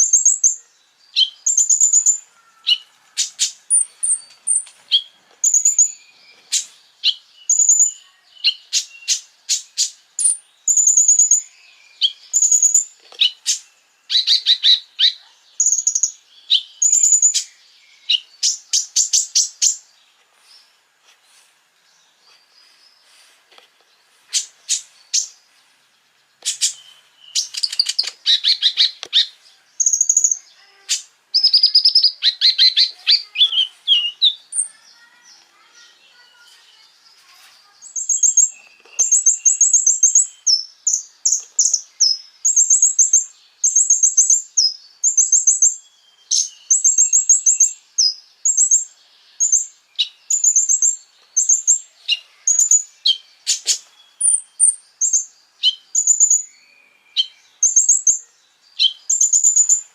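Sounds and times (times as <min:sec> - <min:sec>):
songbird trilling and chirping: 0:00.0 - 0:59.9.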